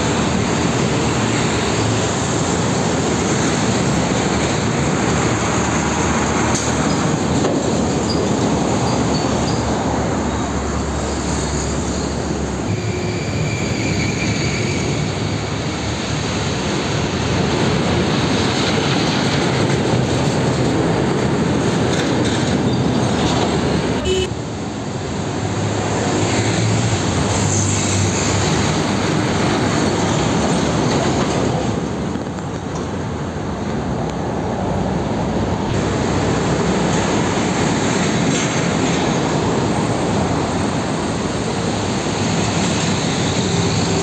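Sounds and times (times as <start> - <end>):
diesel engines running: 0.0 - 44.0
trucks passing by: 0.0 - 44.0
tyres and chassis rumbling: 0.0 - 44.0.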